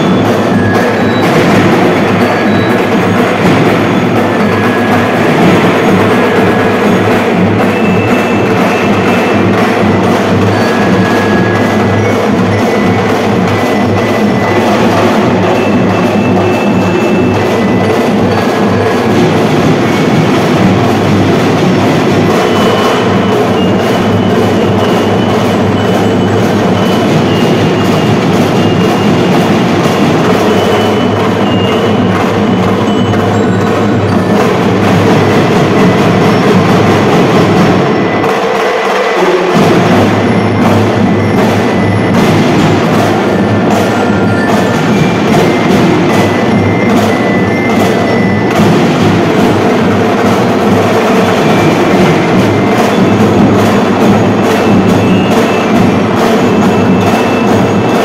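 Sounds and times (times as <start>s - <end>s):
high bell notes: 0.0s - 38.6s, 39.6s - 58.0s
drumline playing cadence: 0.0s - 58.0s.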